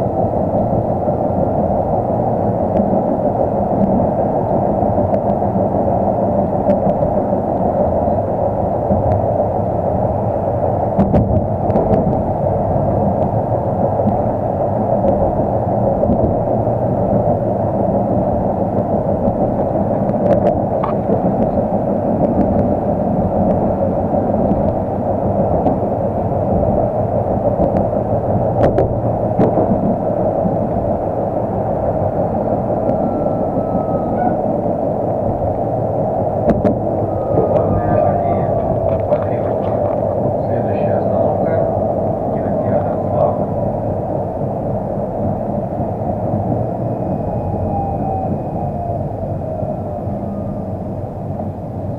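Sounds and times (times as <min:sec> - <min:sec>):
tram wheels rumbling on rails: 0:00.0 - 0:51.9.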